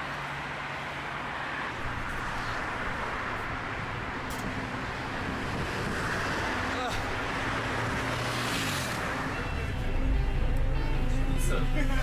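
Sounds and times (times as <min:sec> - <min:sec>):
tyres and traffic rushing: 0:00.0 - 0:12.0
vehicle engine hum: 0:01.7 - 0:12.0.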